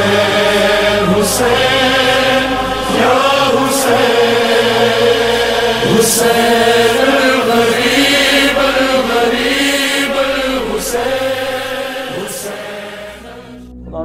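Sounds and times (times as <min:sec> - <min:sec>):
chanted vocal music: 0:00.0 - 0:14.0.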